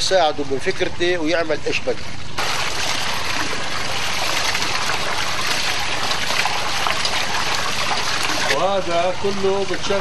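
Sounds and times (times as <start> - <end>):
water splashing over metal paddles: 0.0 - 10.0.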